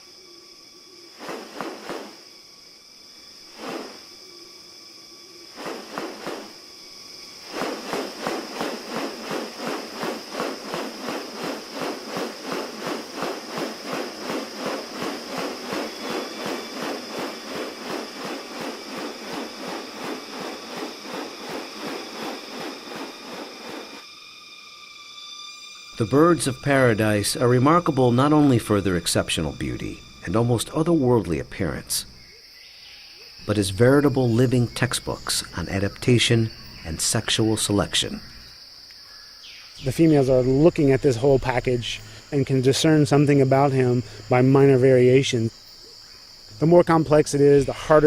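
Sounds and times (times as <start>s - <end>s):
high-pitched insect buzz: 0.0s - 48.0s.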